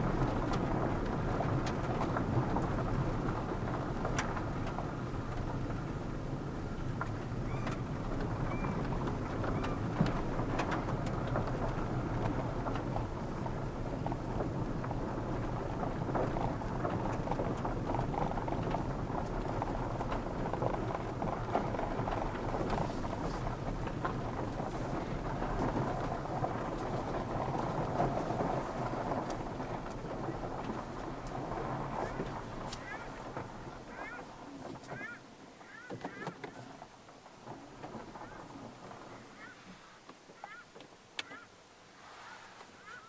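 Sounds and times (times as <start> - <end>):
car road and tyre noise: 0.0 - 43.0.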